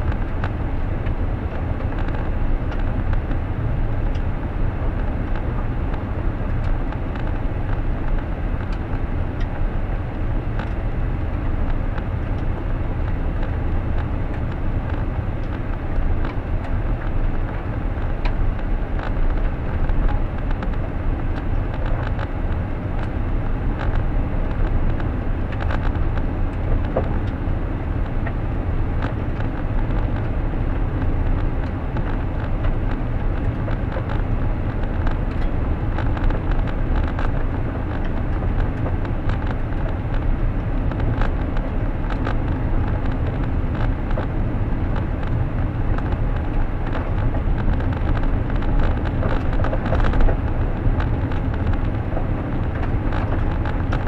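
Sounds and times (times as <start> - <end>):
car road and engine noise: 0.0 - 54.0
small ticks and clicks: 0.0 - 54.0.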